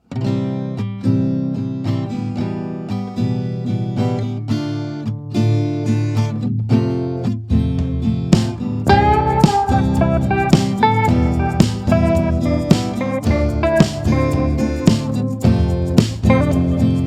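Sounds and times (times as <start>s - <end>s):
acoustic guitar strumming chords: 0.1s - 17.0s.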